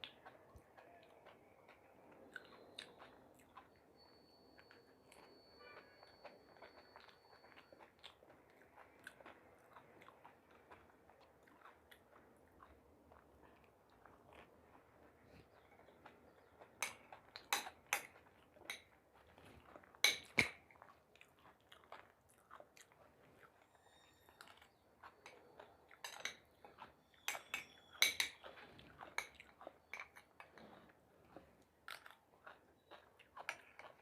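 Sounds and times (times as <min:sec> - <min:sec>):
chewing food: 0:00.0 - 0:34.0.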